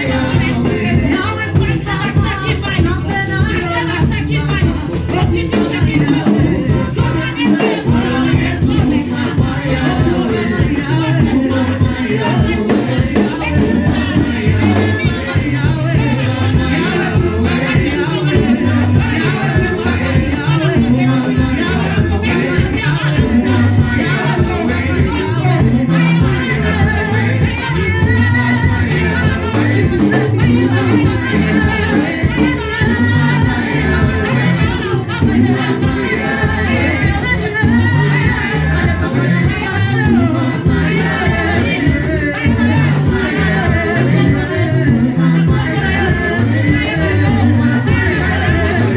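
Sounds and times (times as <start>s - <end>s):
gospel singing over a band: 0.0s - 48.9s
moving bass line: 0.0s - 48.9s.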